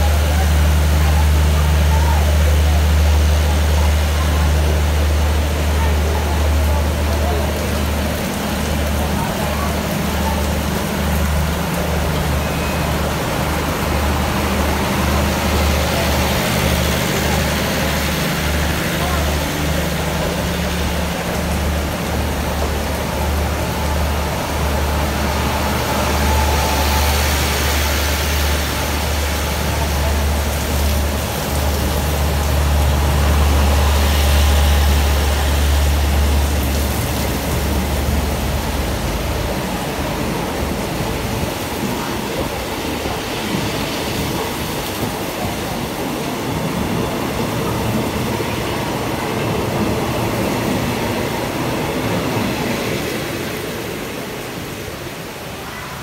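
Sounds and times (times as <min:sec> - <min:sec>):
low diesel engine drone: 0:00.0 - 0:55.6
train wheels on rails: 0:00.0 - 0:56.0.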